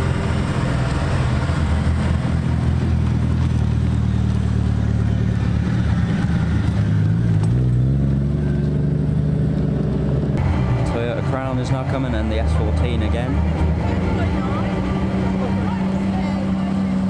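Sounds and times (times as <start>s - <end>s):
car engines running slowly: 0.0s - 17.0s
engine revving up: 0.0s - 17.0s.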